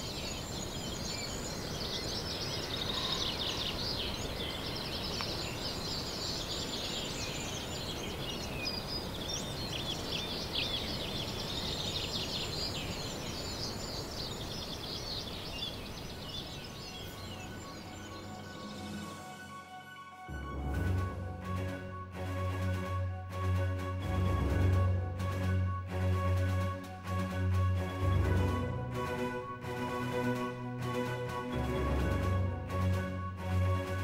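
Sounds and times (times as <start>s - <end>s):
outdoor background hiss: 0.0s - 34.0s
songbirds chirping: 0.0s - 34.0s.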